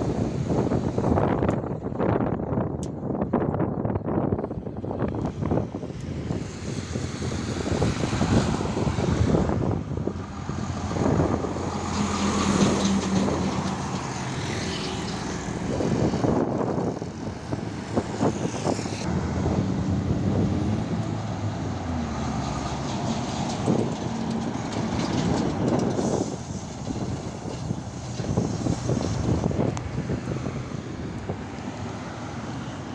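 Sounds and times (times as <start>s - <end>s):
heavy trucks passing: 0.0s - 2.6s, 5.3s - 32.9s.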